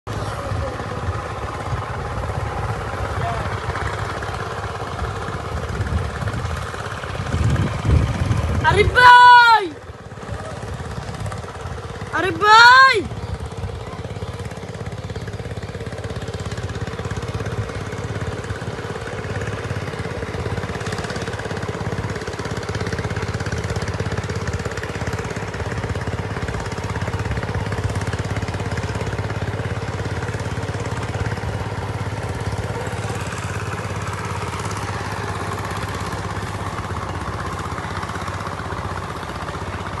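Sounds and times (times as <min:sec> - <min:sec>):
small engine running: 0:00.0 - 0:40.0.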